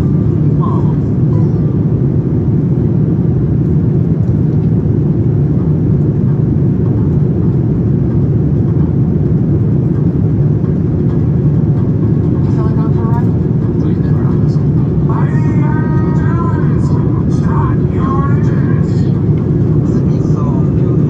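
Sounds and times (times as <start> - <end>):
airliner cabin roar: 0.0 - 21.0.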